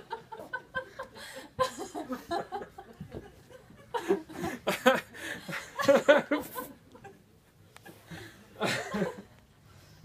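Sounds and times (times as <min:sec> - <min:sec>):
people laughing: 0:00.0 - 0:09.4.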